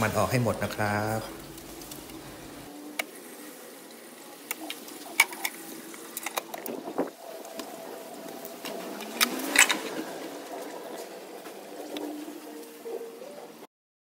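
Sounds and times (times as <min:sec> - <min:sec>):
faint steady hum: 0:00.0 - 0:13.5.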